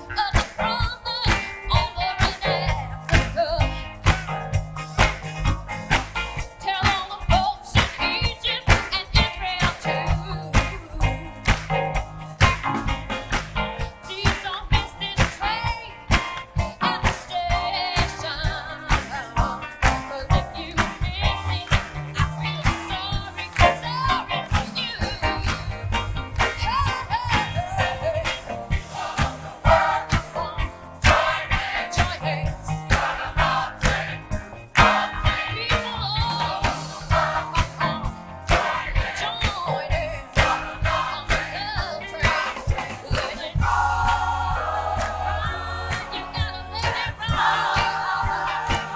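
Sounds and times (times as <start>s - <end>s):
woman singing lead with vibrato: 0.0s - 4.3s, 6.5s - 11.6s, 13.8s - 34.0s, 34.8s - 48.9s
bass line: 0.0s - 48.9s
soul-funk band playing: 0.0s - 48.9s
steady drum beat: 0.0s - 48.9s.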